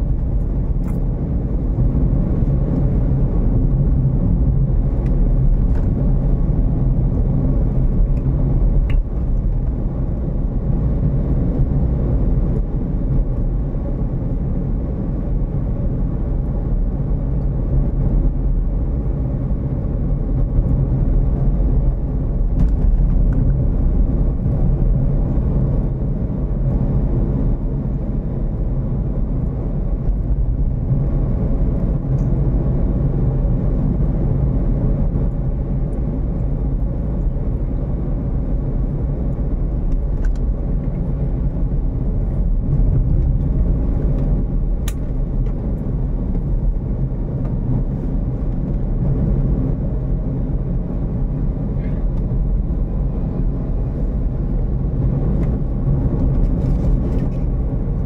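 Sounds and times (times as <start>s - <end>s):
car driving low rumble: 0.0s - 58.0s.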